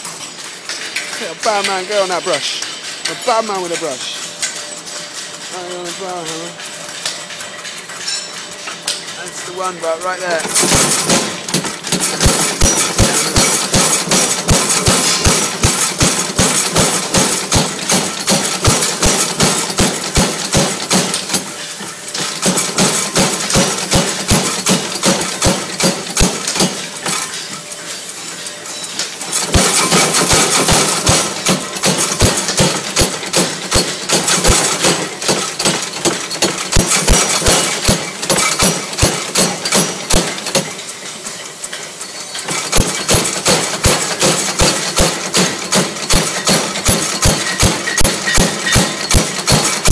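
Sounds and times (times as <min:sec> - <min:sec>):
power hammer striking hot steel: 0:08.0 - 0:27.6, 0:29.0 - 0:49.9.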